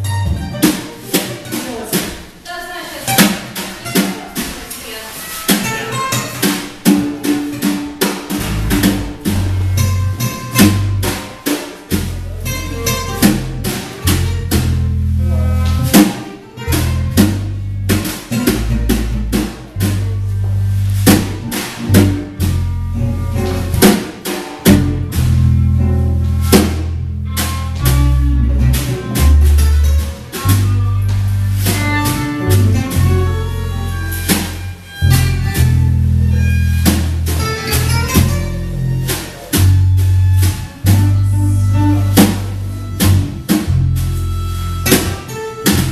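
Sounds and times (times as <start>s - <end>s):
bass line: 0.0s - 2.2s, 5.5s - 45.9s
drum kit hits: 0.0s - 2.4s, 5.5s - 33.4s, 34.1s - 44.2s, 44.8s - 45.9s
jazz band playing: 0.0s - 45.9s.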